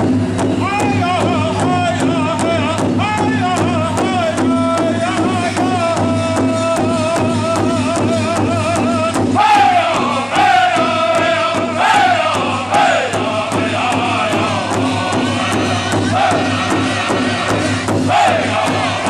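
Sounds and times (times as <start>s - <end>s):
large drum steady beat: 0.0s - 19.0s
men singing in high voices: 0.6s - 19.0s.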